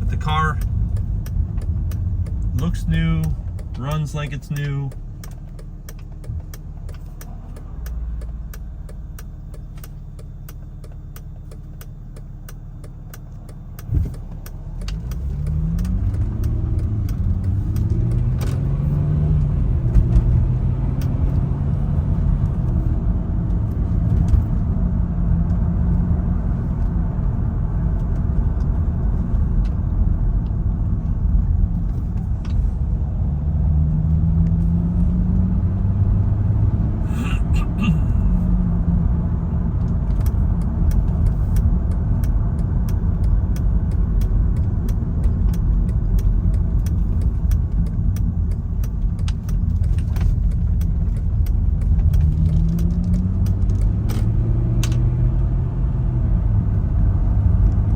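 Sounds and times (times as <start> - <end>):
car engine from inside cabin: 0.0 - 57.9.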